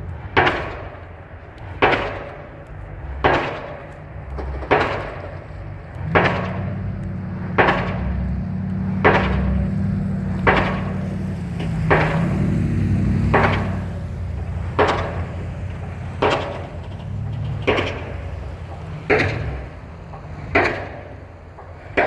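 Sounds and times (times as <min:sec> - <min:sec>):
low engine hum: 0:00.0 - 0:22.0
pile driver hammer striking: 0:00.3 - 0:22.0.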